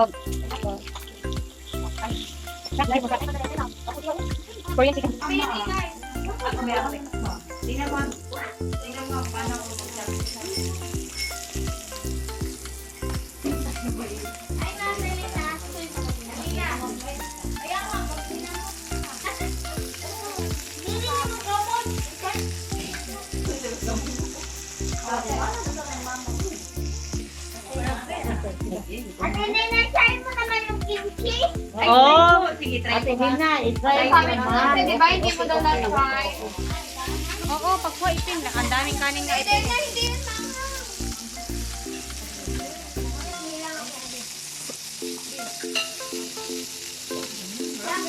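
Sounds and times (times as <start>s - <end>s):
background music with bass: 0.0s - 43.4s
meat sizzling on a grill: 0.0s - 48.0s.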